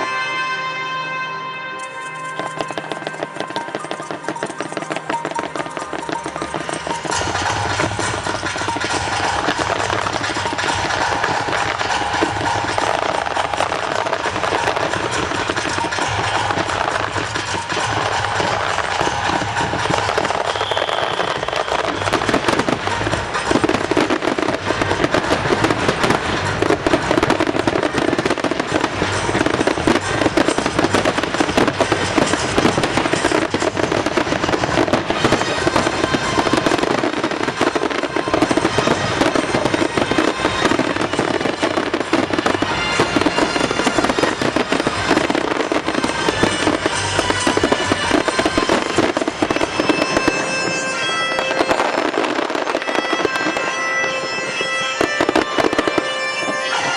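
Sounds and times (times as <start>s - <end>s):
music soundtrack: 0.0s - 56.9s
fireworks bursting and crackling: 1.8s - 56.9s.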